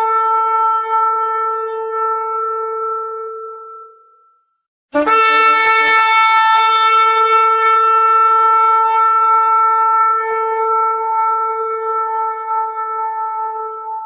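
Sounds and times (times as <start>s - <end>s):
shofar blast: 0.0s - 4.1s, 4.9s - 14.0s.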